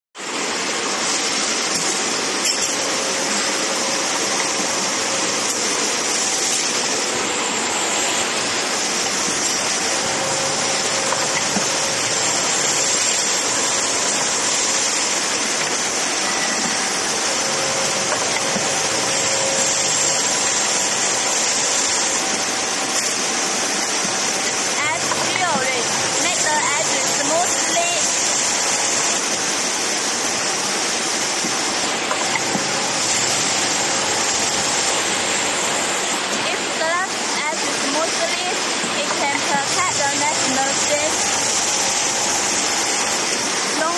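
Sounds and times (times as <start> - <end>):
glass grinding machine running: 0.2 - 43.9.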